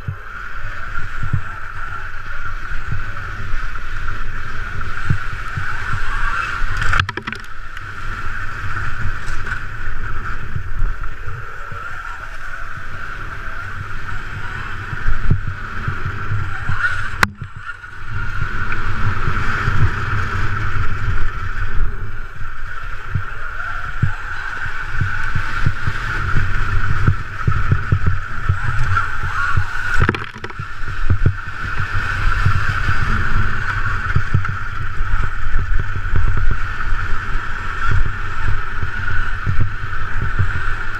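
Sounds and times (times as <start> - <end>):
rumble and buffeting over rough ground: 0.0 - 40.9.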